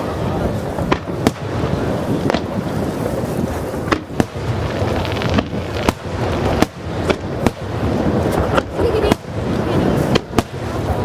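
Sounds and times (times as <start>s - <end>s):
fireworks sharp bangs: 0.4s - 11.0s.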